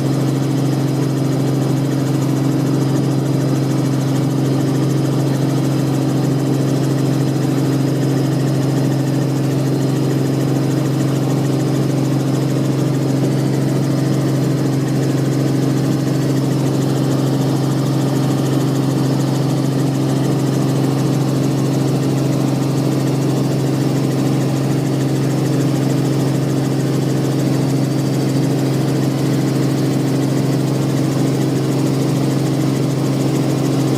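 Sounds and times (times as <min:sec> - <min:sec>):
helicopter droning: 0:00.0 - 0:33.9.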